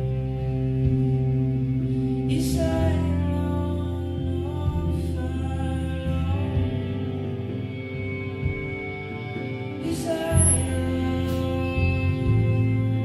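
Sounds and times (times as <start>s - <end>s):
ambient sustained chords: 0.0s - 13.0s.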